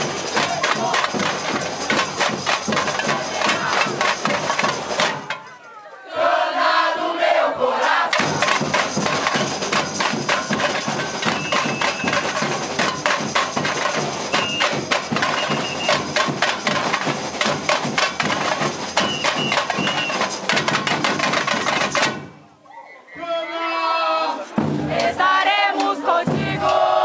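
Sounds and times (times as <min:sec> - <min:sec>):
samba drum corps playing: 0:00.0 - 0:05.6, 0:06.2 - 0:22.4, 0:24.6 - 0:27.0.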